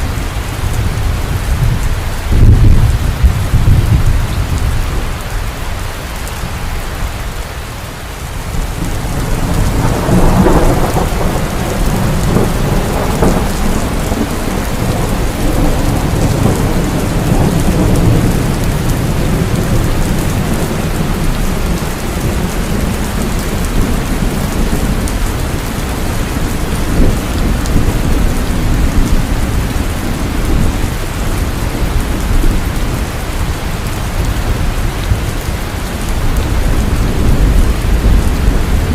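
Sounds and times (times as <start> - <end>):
thunder rumbling: 0.0 - 5.6, 8.4 - 38.9
heavy rain falling: 0.0 - 38.9.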